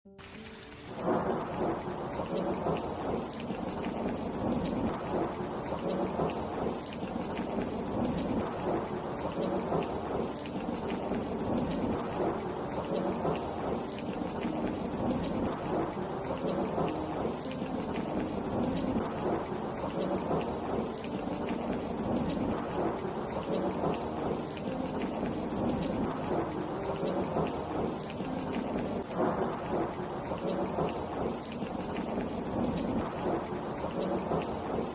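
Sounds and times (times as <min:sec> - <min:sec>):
heavy rain falling: 0:00.1 - 0:34.9
thunder rumbling: 0:00.8 - 0:34.9.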